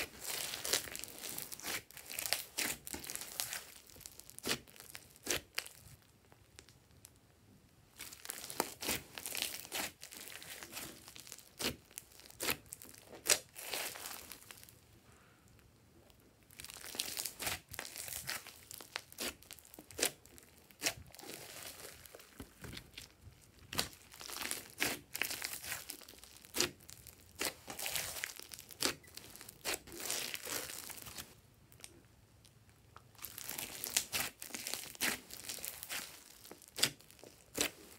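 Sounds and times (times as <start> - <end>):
slime crackling and crinkling: 0.0 - 7.2, 7.9 - 14.9, 16.0 - 37.9.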